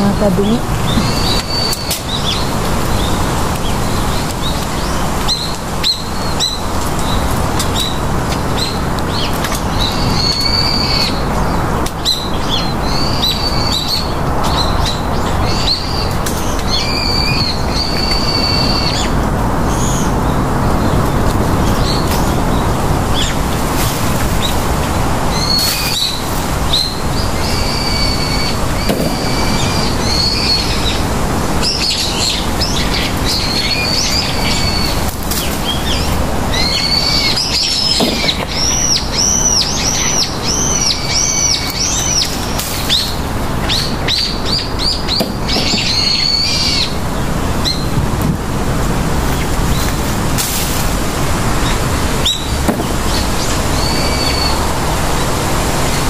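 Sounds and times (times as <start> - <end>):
rustle of leaves and branches: 0.0 - 56.0
small birds singing: 0.0 - 56.0.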